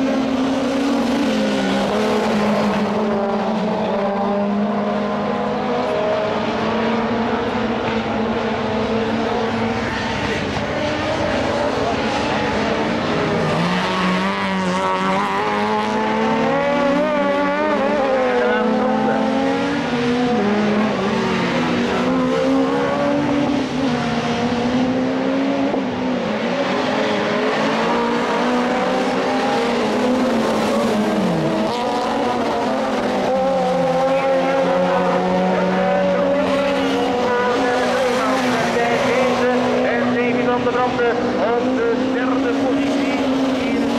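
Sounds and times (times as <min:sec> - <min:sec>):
race car engines revving: 0:00.0 - 0:43.9.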